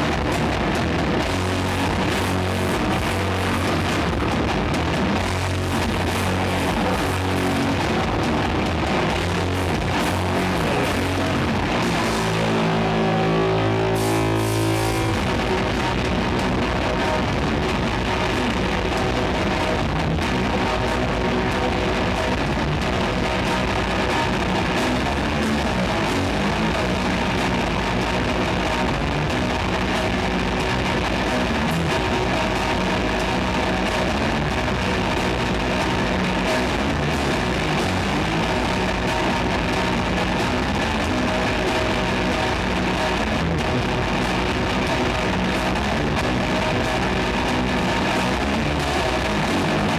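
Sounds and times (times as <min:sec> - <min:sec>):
doom metal band playing live: 0:00.0 - 0:49.9.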